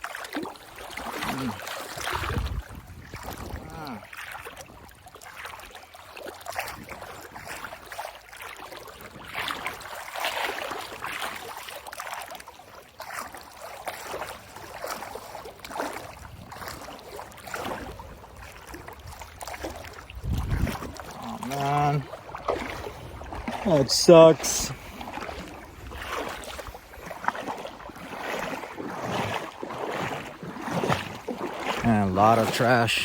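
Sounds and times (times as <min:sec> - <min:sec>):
wading through river water: 0:00.0 - 0:33.0.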